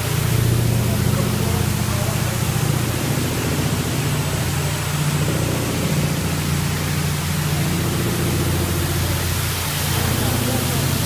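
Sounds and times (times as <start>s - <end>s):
low machine hum: 0.0s - 11.0s
water spraying onto rug: 0.0s - 11.0s.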